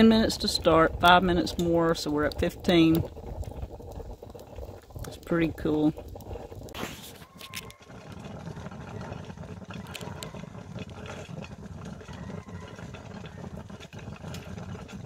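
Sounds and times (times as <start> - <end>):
percolator bubbling gurgle: 0.0 - 15.0.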